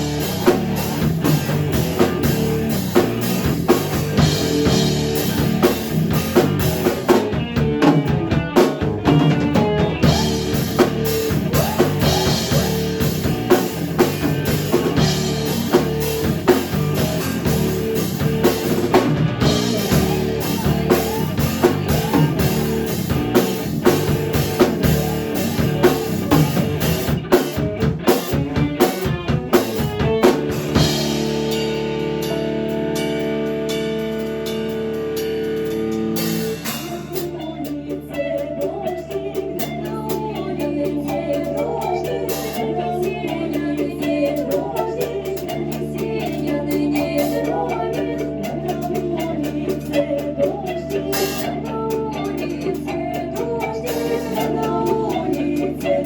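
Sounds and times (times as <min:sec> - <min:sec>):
band playing folk music: 0:00.0 - 0:38.7, 0:39.4 - 0:56.0
drum kit beat: 0:00.0 - 0:56.0
guitar: 0:00.0 - 0:56.0.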